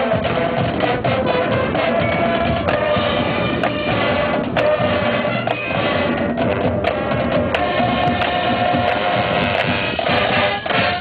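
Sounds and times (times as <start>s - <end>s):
brass holding steady chords: 0.0s - 11.0s
drums and percussion: 0.0s - 11.0s
marching band playing: 0.0s - 11.0s.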